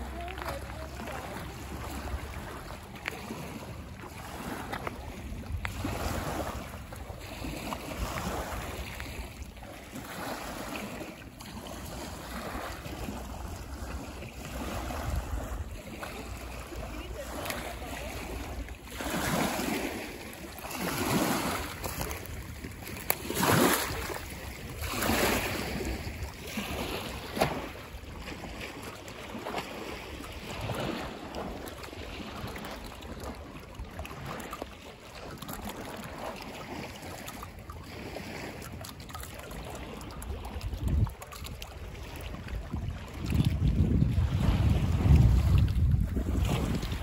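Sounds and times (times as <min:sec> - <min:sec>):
low rumble of wind: 0:00.0 - 0:47.0
waves sloshing against shore: 0:00.0 - 0:47.0.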